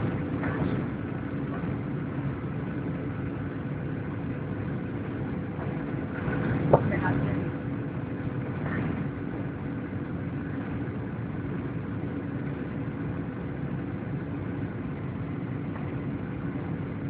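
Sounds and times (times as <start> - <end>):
jet engine drone: 0.0 - 17.0
low steady hum: 0.0 - 17.0.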